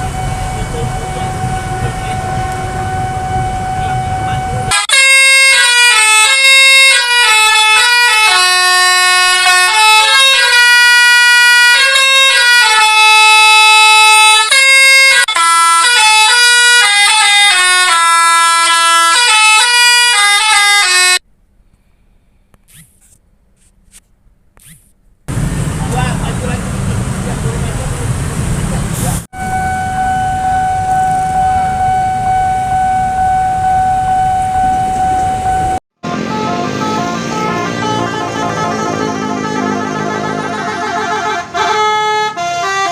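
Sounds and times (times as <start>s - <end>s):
horn playing a melody: 0.0s - 21.2s, 29.3s - 42.9s.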